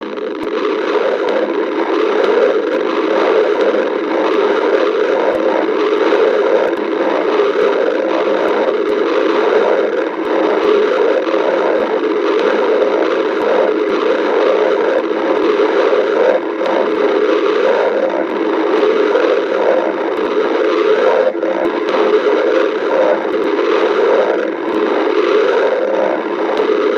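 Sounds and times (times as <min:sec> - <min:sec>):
faint clicks: 0:00.0 - 0:26.9
stomach growling and gurgling: 0:00.0 - 0:26.9.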